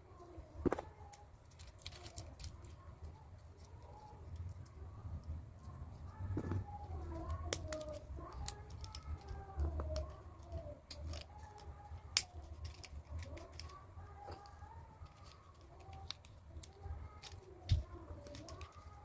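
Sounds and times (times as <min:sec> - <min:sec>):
plastic toy parts clicking: 0:00.2 - 0:19.0.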